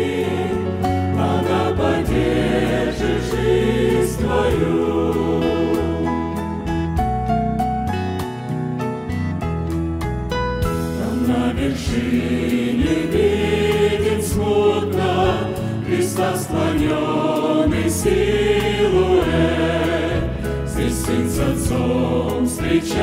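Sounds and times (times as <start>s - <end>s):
choir singing a hymn: 0.0s - 7.0s, 10.9s - 23.0s.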